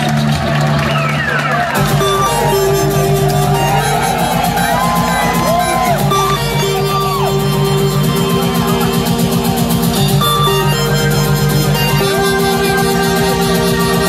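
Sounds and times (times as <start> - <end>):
loud industrial music: 0.0 - 14.0.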